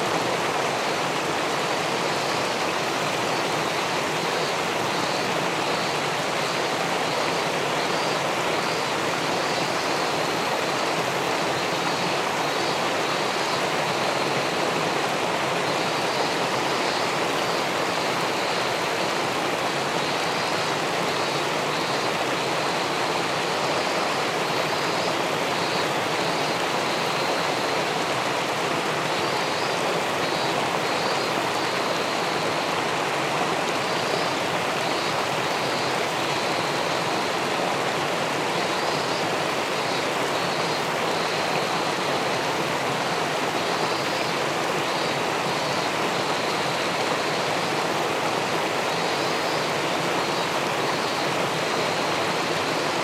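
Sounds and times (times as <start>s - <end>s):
river water spilling over weir: 0.0s - 53.0s.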